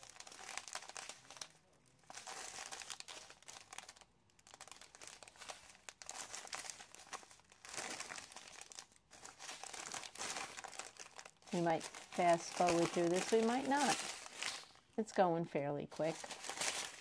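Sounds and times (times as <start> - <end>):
plastic bags crinkling: 0.0 - 15.2, 15.9 - 17.0.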